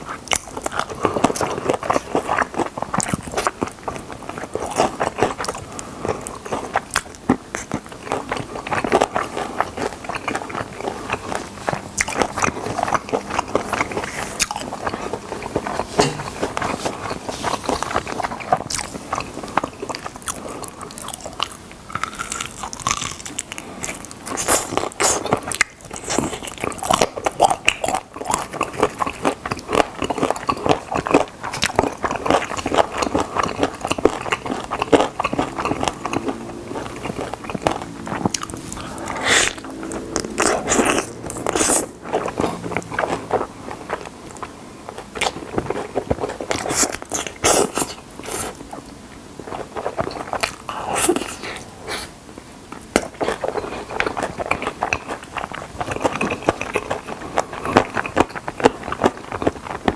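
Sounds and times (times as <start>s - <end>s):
biting and chewing chicken: 0.0s - 59.9s.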